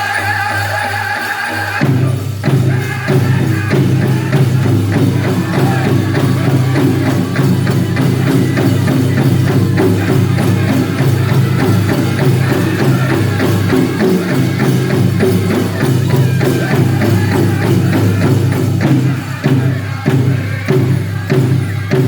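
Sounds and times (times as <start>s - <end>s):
big drum fast beat: 0.0s - 22.0s
group singing: 0.0s - 22.0s.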